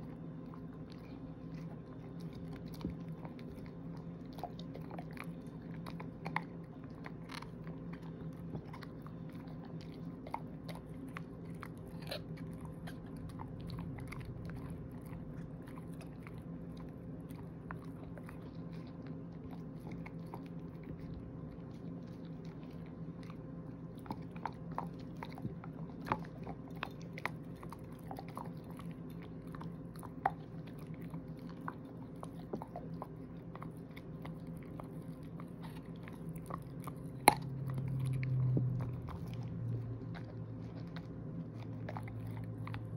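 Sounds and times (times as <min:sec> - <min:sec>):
dog chewing a hard treat: 0:00.0 - 0:42.9
teeth crunching on a treat: 0:00.0 - 0:42.9.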